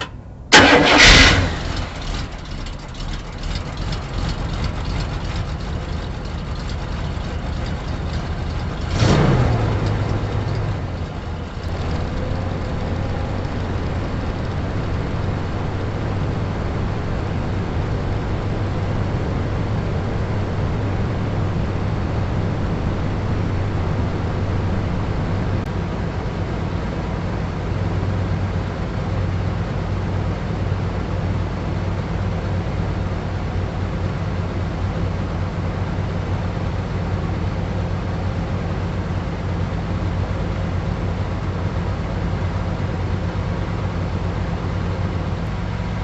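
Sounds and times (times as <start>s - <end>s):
engine droning: 0.0s - 46.0s.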